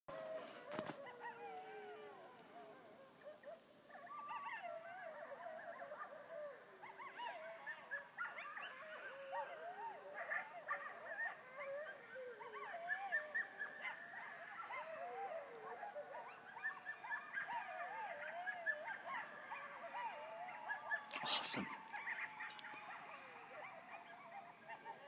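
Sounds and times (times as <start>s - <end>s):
coyotes howling and yelping: 0.1s - 25.0s.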